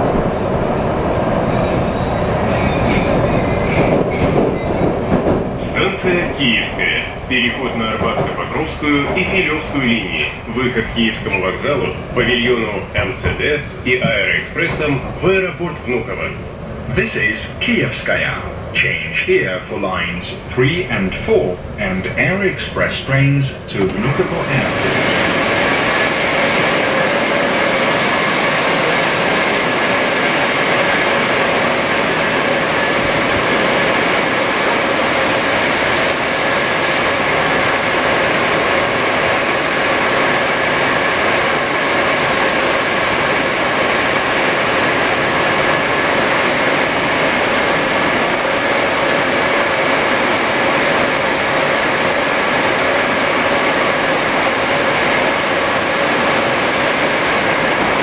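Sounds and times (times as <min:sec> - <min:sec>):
station hall noise: 0:00.0 - 0:58.0
train equipment humming and whining: 0:00.0 - 0:58.0.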